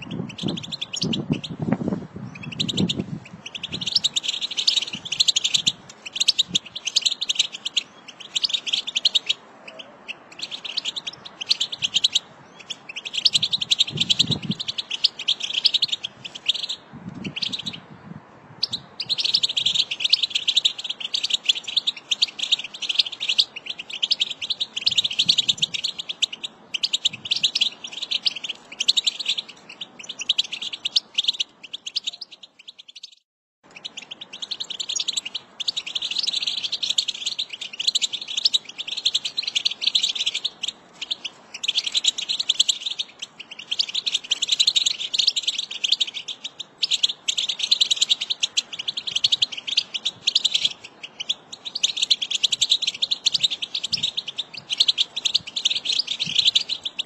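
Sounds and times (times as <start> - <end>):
goldfinch twittering song: 0.0 - 1.6, 2.2 - 18.0, 18.6 - 57.0.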